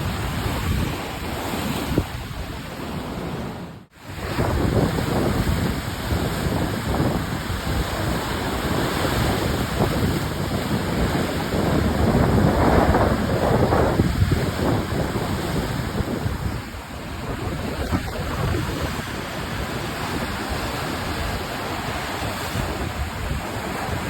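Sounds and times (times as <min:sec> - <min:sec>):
gusty wind buffeting microphone: 0:00.0 - 0:24.0
stormy sea surf breaking: 0:00.0 - 0:24.0.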